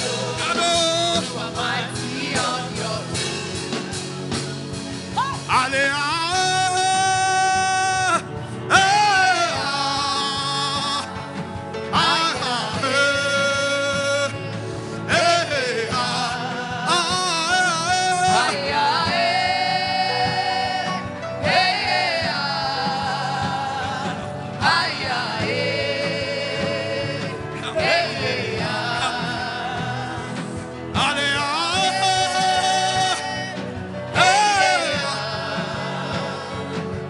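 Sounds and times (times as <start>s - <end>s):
gospel music accompaniment: 0.0s - 37.0s.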